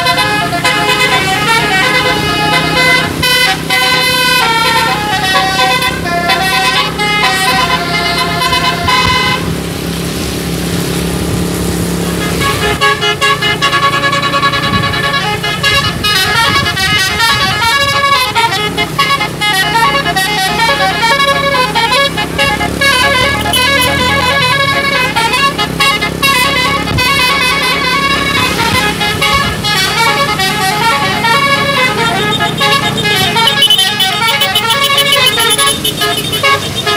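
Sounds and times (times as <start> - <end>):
musical air horn melody: 0.0 - 9.9, 11.8 - 36.9
rushing noise: 0.0 - 36.9.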